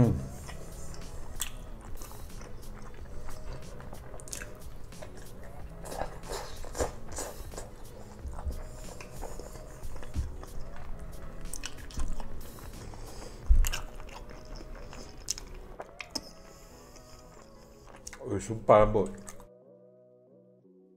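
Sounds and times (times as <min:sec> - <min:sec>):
person chewing wetly: 0:00.4 - 0:18.3, 0:19.1 - 0:19.5.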